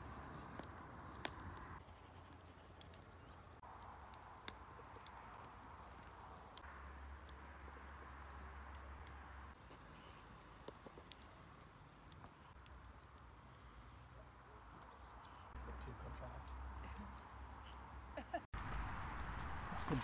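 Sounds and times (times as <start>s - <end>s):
soft steady hiss: 0.0s - 20.0s
wood fire crackling: 0.0s - 20.0s.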